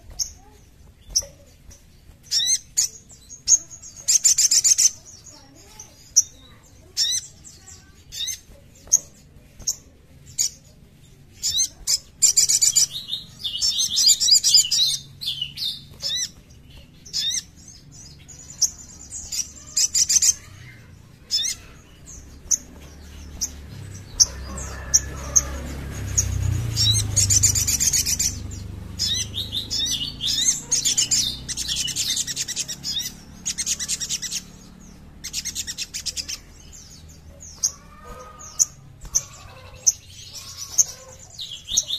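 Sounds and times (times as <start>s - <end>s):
sunbird chattering song: 0.0s - 41.9s.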